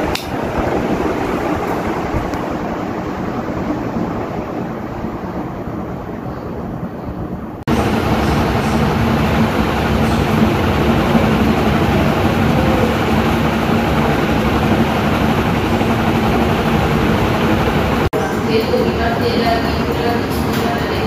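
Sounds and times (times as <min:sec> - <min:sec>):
ceiling fan running: 0:00.0 - 0:21.0.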